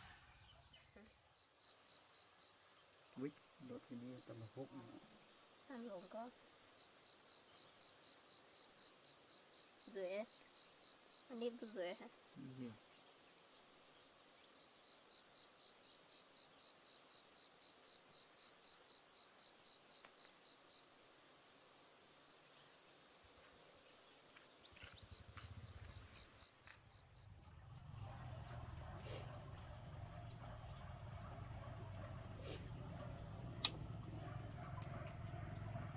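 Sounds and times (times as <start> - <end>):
cricket chirping: 0.0 - 35.9.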